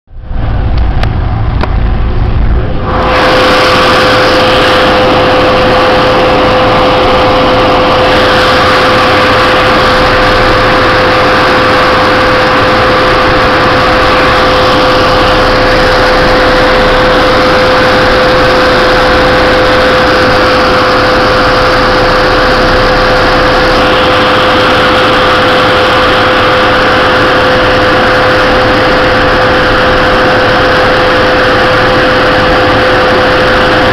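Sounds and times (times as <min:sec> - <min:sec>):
snow grooming machine engine: 0:00.2 - 0:33.9.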